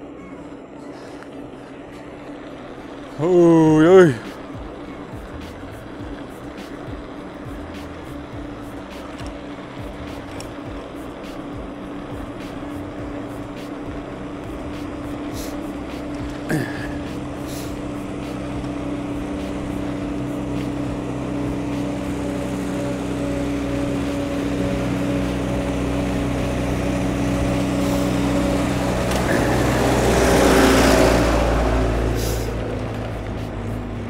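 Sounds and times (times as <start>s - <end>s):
vehicle engine passing by: 0.0s - 34.0s.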